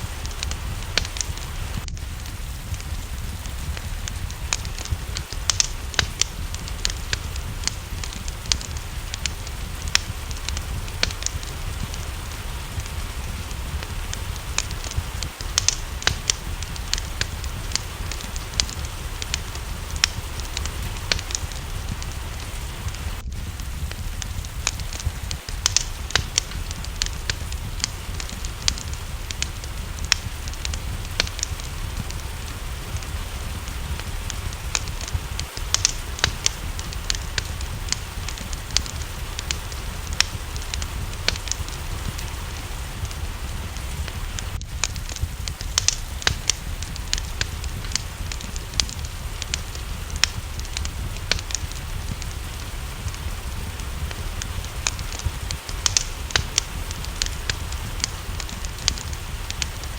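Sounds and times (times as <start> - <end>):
low rumble: 0.0 - 59.9
rain: 0.0 - 59.9
wood fire crackling: 0.0 - 59.9.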